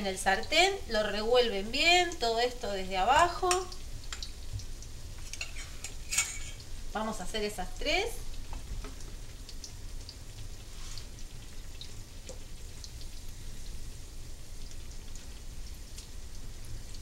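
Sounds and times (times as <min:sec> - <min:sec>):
batter sizzling in hot oil: 0:00.0 - 0:17.0.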